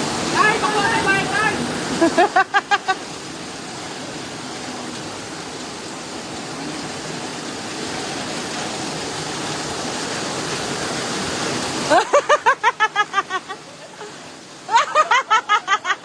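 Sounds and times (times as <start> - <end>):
heavy rain: 0.0 - 16.0
rushing floodwater: 0.0 - 16.0.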